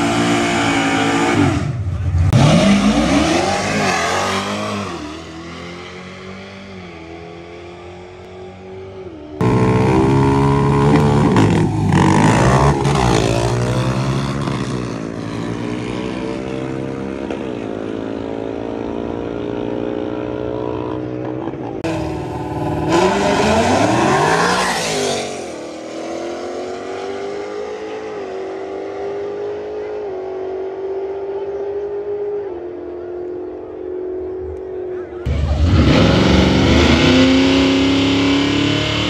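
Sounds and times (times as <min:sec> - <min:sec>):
drag car engines revving: 0:00.0 - 0:39.0.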